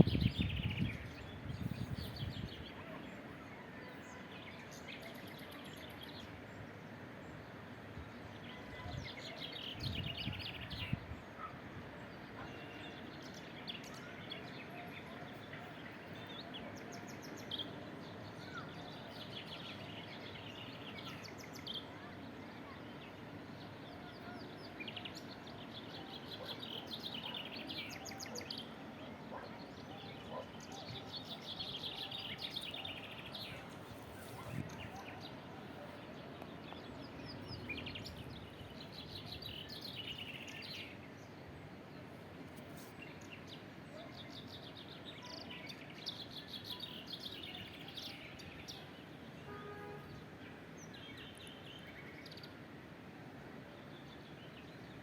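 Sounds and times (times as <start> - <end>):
small birds chirping: 0.0 - 3.4, 4.0 - 52.7
outdoor background hiss: 0.0 - 55.0.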